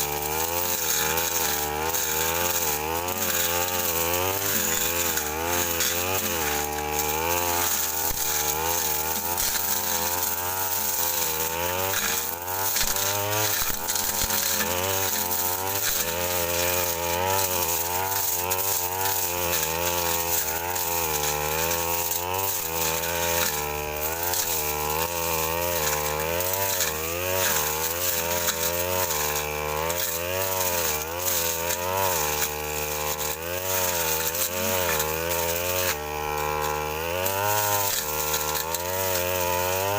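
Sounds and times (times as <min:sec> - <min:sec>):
brush cutter engine running: 0:00.0 - 0:39.9.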